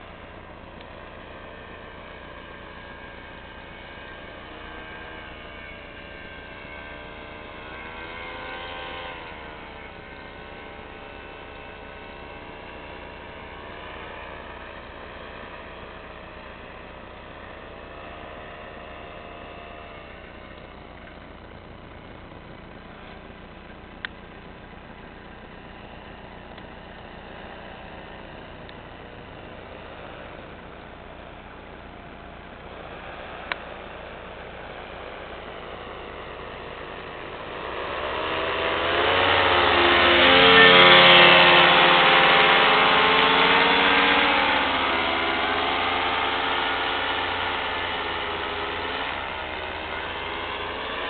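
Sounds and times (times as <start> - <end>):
paraglider engine droning: 0.0 - 51.0
steady low hum: 0.0 - 51.0.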